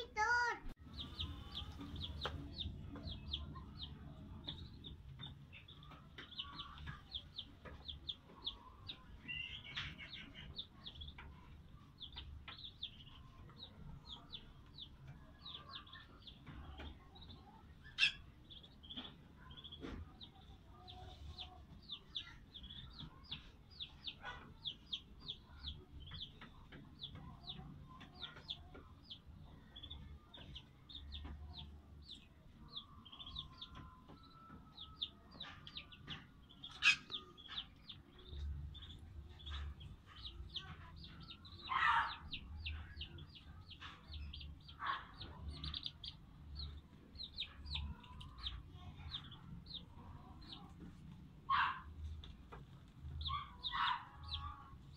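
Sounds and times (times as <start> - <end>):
ducklings peeping: 0.2 - 54.9.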